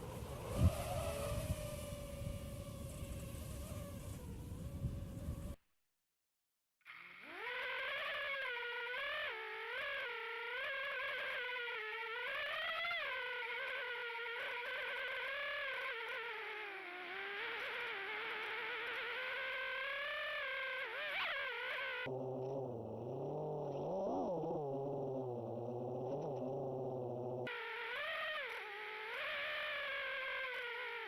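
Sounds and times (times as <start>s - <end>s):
quadcopter motors whining: 0.0s - 5.6s, 6.9s - 31.0s.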